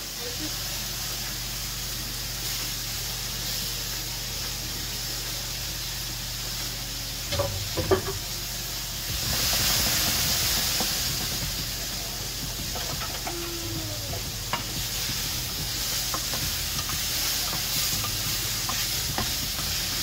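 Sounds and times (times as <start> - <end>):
mushrooms sizzling in a frying pan: 0.0 - 20.0.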